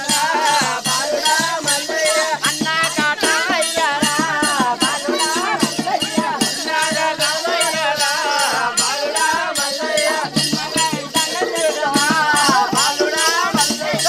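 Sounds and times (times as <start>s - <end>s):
rattles and percussion beat: 0.0s - 14.0s.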